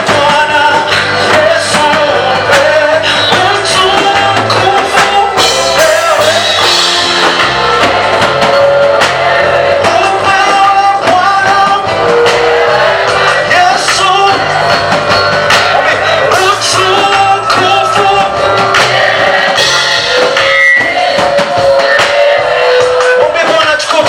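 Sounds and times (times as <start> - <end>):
band playing steady beat: 0.0 - 24.0
group singing praise song: 0.0 - 24.0.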